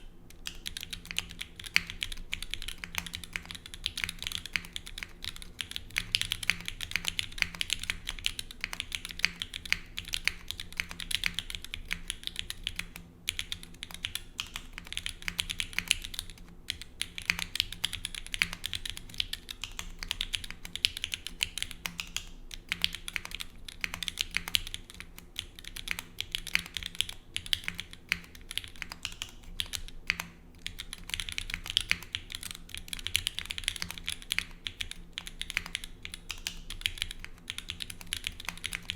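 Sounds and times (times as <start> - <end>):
mechanical keyboard typing: 0.3 - 38.9.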